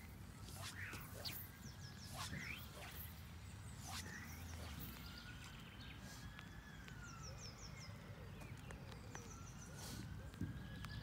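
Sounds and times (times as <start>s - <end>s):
thin gliding whistles: 0.0s - 8.1s, 9.2s - 11.0s
songbirds chirping: 0.0s - 11.0s.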